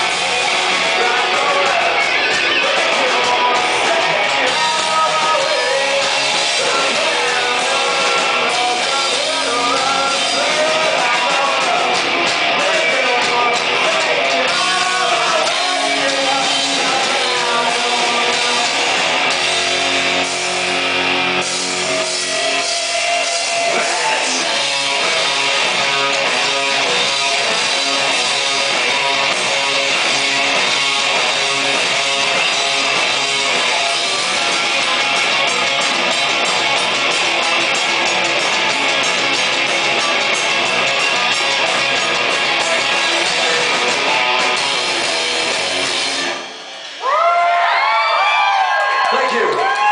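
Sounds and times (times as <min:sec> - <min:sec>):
drum kit: 0:00.0 - 0:47.0
electric guitars: 0:00.0 - 0:49.9
rock band playing live: 0:00.0 - 0:49.9.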